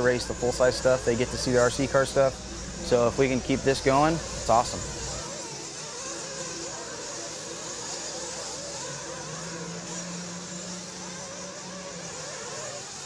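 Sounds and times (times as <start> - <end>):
rc car engines whining: 0.0 - 13.0.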